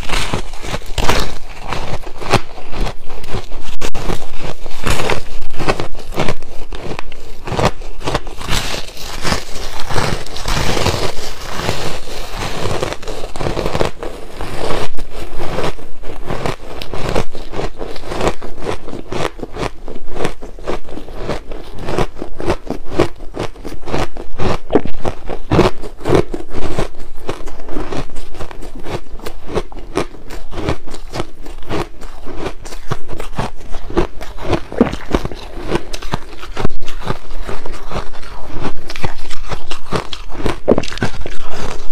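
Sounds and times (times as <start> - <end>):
ice being crunched and chewed: 0.0 - 41.9.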